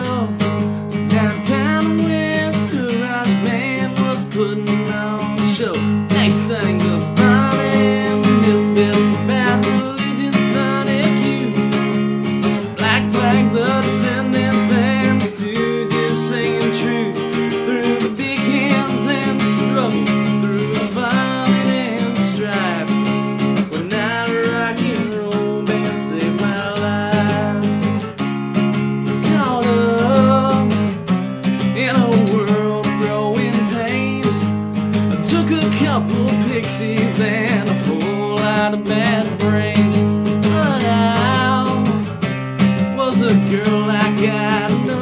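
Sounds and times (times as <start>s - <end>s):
acoustic guitar strumming chords: 0.0s - 45.0s.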